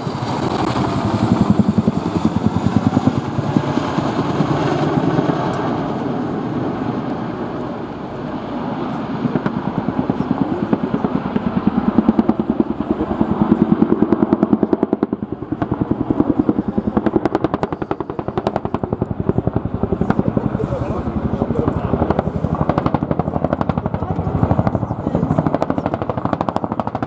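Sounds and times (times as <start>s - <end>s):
helicopter flying past: 0.0s - 27.0s.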